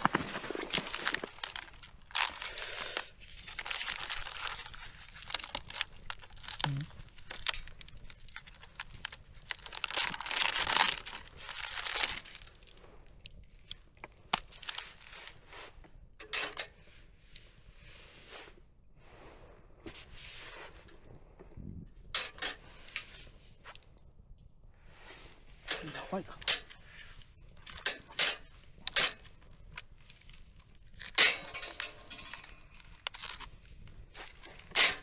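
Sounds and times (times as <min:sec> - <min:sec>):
rustling and crinkling handling: 0:00.0 - 0:24.2, 0:24.8 - 0:35.0.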